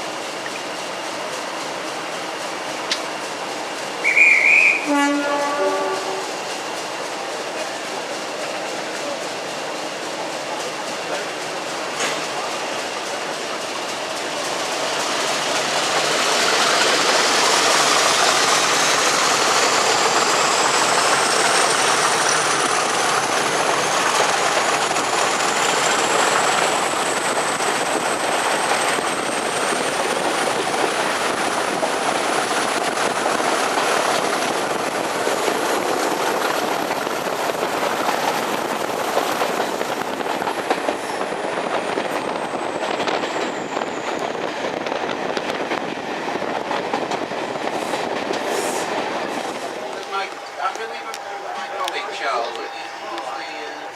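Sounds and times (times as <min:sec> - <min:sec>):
train high whine: 0:00.0 - 0:53.9
train wheel clatter: 0:00.0 - 0:53.9.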